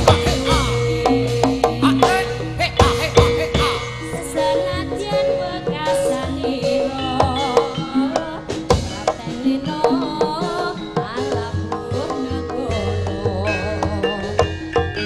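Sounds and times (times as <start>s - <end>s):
woman singing into microphone: 0.0s - 14.8s
amplified instrumental accompaniment: 0.0s - 15.0s.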